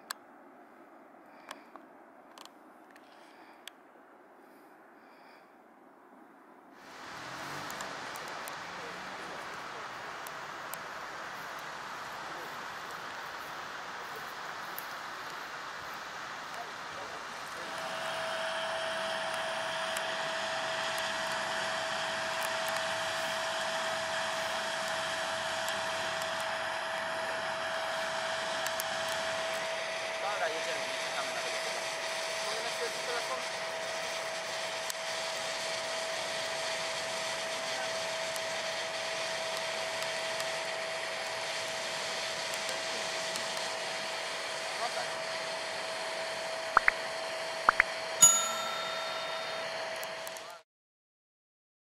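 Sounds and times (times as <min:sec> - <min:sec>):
auxiliary power unit whine: 0:06.8 - 0:50.6
jet turbine running: 0:06.8 - 0:50.6.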